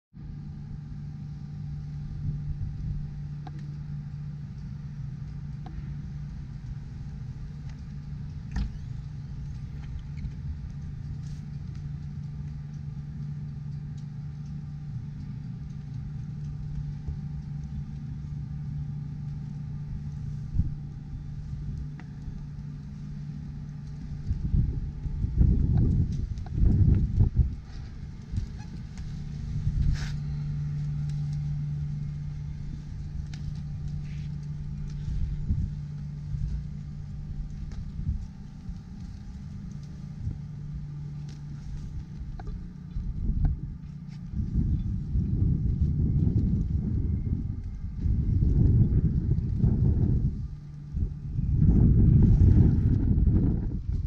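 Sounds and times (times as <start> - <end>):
low machine hum: 0.1 - 54.0
low rumbling: 0.2 - 54.0.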